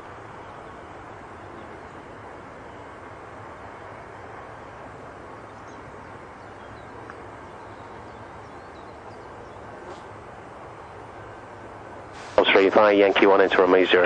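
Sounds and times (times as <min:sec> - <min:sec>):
continuous rushing with low hum: 0:00.0 - 0:14.0.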